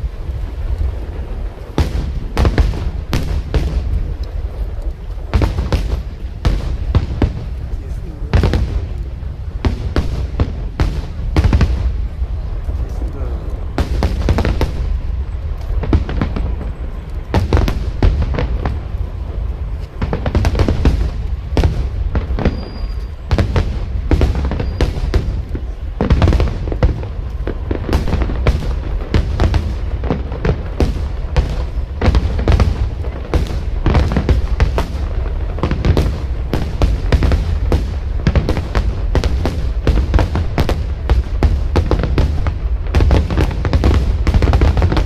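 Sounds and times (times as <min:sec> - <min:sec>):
fireworks bursting and crackling: 0:00.0 - 0:45.0
low rumble: 0:00.0 - 0:45.0.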